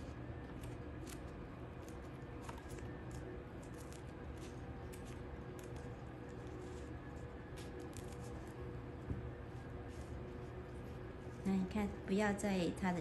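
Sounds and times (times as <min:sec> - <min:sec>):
tape and paper crackling: 0:00.0 - 0:11.8
low steady hum: 0:00.0 - 0:13.0.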